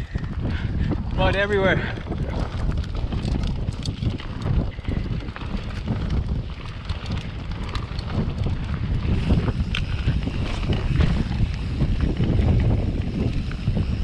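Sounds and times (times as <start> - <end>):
bike rattles and clicks: 0.0 - 14.0
bike tyres rolling through mud: 0.0 - 14.0
wind buffeting microphone: 0.0 - 14.0.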